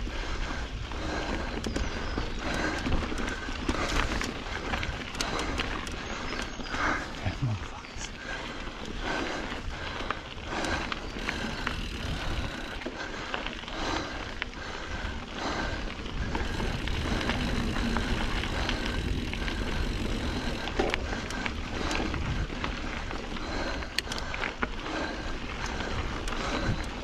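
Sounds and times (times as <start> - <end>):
bike tyres rolling on dirt: 0.0 - 27.0
bike rattling over rocks: 0.9 - 27.0.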